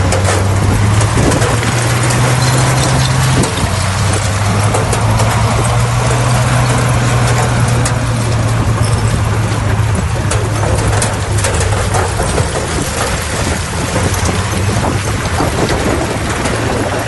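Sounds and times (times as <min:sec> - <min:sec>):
bulldozer diesel engine running: 0:00.0 - 0:17.0
machine clanking on stone: 0:00.0 - 0:17.0.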